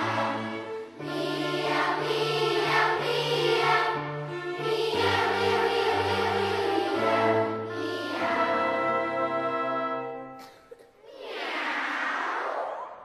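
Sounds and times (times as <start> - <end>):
choir-like film score chords: 0.0 - 10.4.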